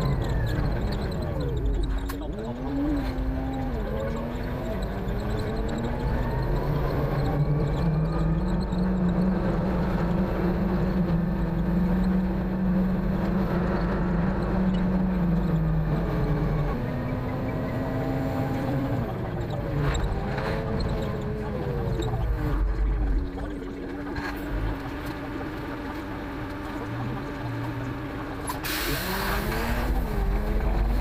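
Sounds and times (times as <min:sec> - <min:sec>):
diesel engine under load: 0:00.0 - 0:31.0.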